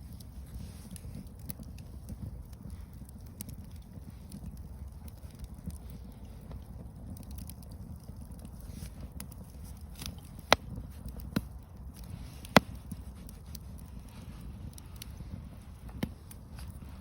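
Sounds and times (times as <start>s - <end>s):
burning wood popping: 0.0s - 17.0s
campfire rumble and crackling: 0.0s - 17.0s.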